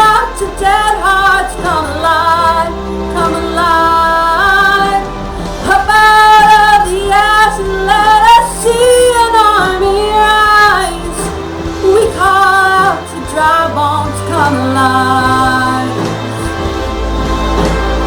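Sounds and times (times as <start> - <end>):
woman singing worship song: 0.0 - 16.9
instrumental accompaniment with bass: 0.0 - 18.0.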